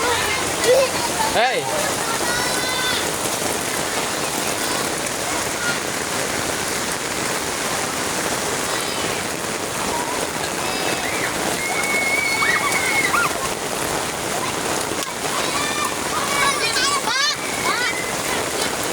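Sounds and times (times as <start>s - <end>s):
faint children's voices: 0.0s - 6.4s, 8.3s - 18.9s
rain falling on ground: 0.0s - 18.9s.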